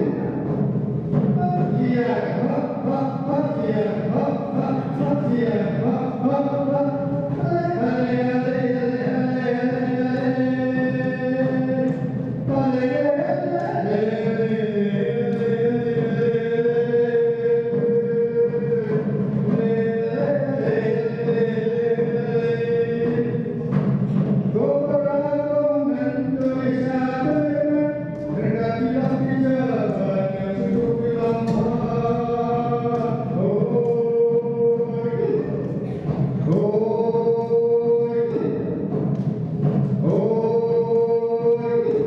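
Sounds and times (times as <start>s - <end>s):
hand drum: 0.0s - 42.0s.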